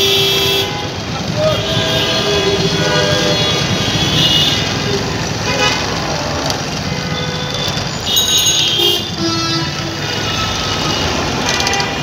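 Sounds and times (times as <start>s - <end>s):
busy road traffic: 0.0s - 12.0s
vehicle horns: 0.0s - 12.0s.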